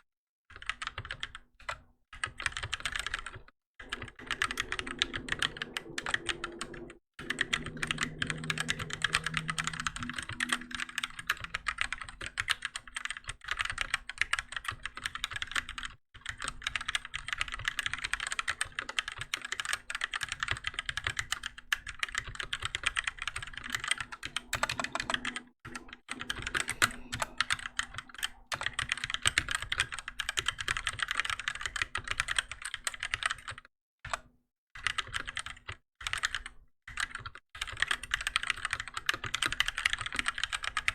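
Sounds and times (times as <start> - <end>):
fast typing on mechanical keyboard: 0.5 - 34.2, 34.8 - 40.9.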